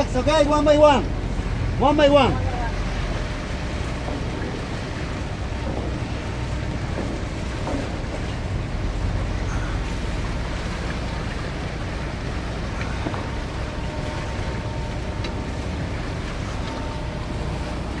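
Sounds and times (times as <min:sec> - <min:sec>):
boat engines rumbling: 0:00.0 - 0:18.0
water washing between hulls: 0:00.0 - 0:18.0.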